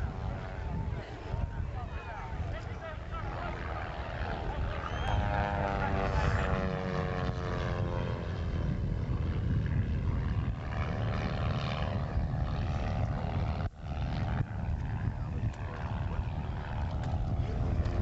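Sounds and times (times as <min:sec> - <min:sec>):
small plane engine passing: 0:00.0 - 0:18.0.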